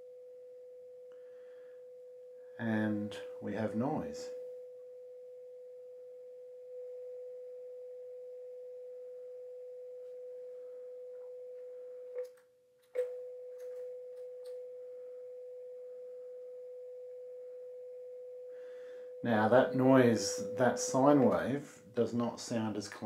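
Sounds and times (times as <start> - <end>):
sine-wave test tone: 0.0 - 23.0.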